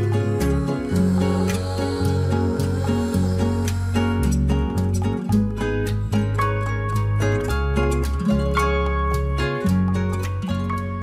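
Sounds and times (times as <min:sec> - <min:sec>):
held bass notes: 0:00.0 - 0:11.0
plucked-string tune: 0:00.0 - 0:11.0.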